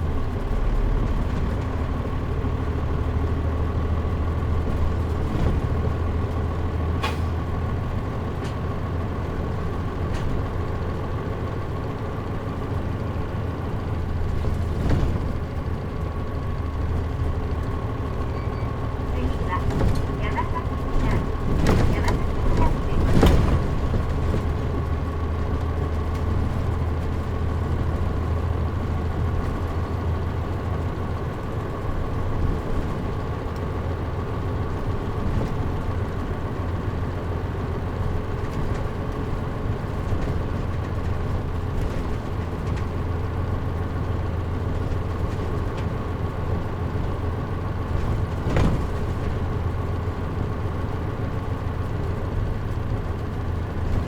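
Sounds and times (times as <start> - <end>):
bus diesel engine hum: 0.0 - 54.0.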